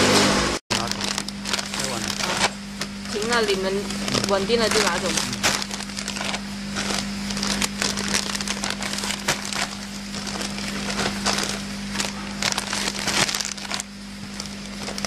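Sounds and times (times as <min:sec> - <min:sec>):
plastic bags crinkling: 0:00.7 - 0:15.0
steady low hum: 0:00.7 - 0:15.0.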